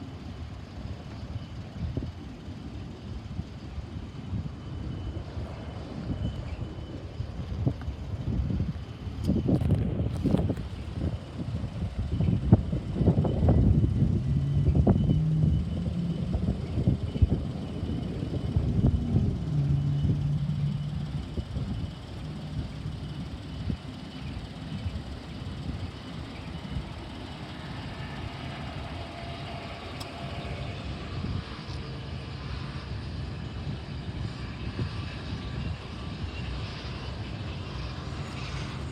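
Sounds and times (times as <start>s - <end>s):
freight train engine rumble: 0.0s - 38.9s.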